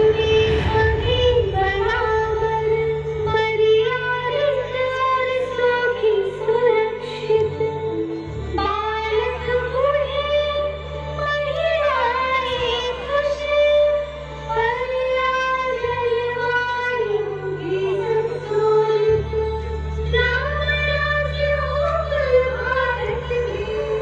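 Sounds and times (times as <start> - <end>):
low bass notes: 0.0 - 24.0
woman singing: 0.0 - 24.0.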